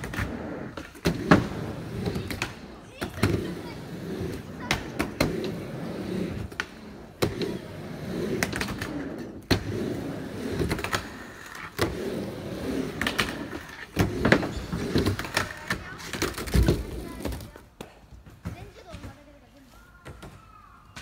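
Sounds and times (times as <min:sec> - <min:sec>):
skateboard clacking: 0:00.0 - 0:19.2
skateboard wheels rolling: 0:00.0 - 0:19.2.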